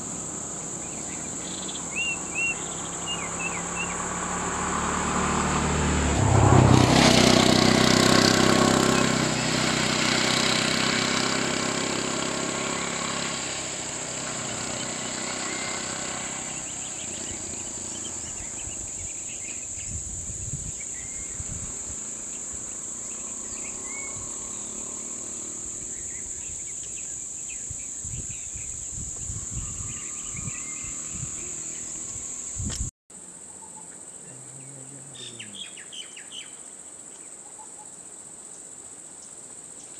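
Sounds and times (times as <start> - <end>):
vehicle engine moving off: 0.0 - 32.9.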